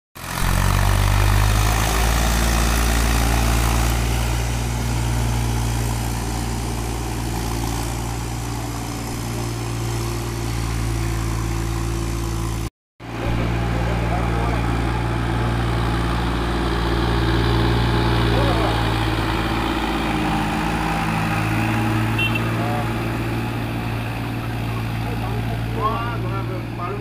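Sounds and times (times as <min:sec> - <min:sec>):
tractor diesel engine running: 0:00.2 - 0:27.0.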